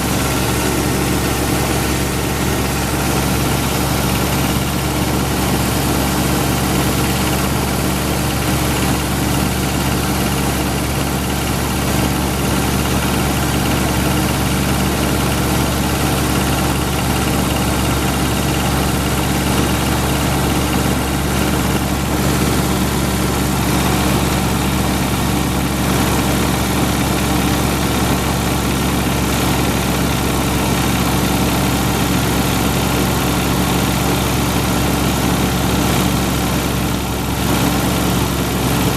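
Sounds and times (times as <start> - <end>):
car engine idling: 0.0 - 38.9
engine knock: 0.0 - 38.9.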